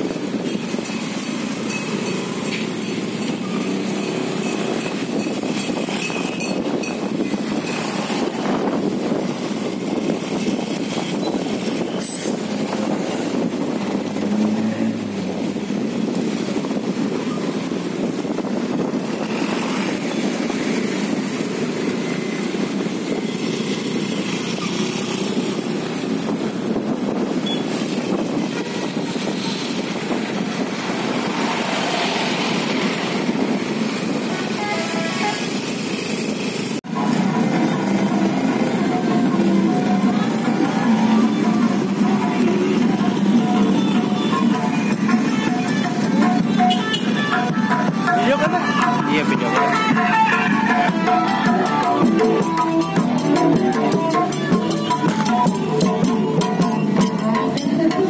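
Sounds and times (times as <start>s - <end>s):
idling buses and cars rumbling: 0.0s - 58.0s
tyre and wind noise: 0.0s - 58.0s.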